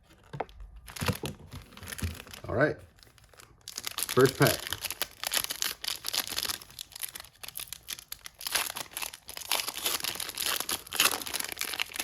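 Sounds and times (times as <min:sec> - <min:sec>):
foil wrapper tearing and crinkling: 0:00.9 - 0:12.0.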